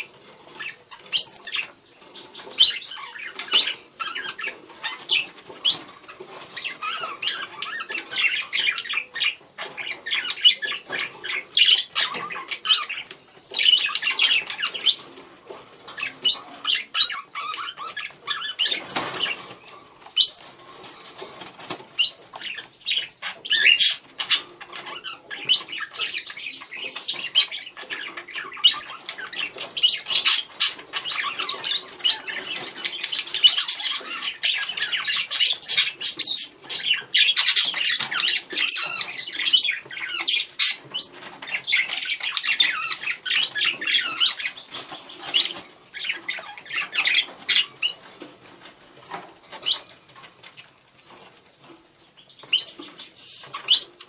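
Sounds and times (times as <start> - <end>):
budgerigars chirping: 0.0 - 20.7, 21.9 - 48.3, 49.0 - 54.0.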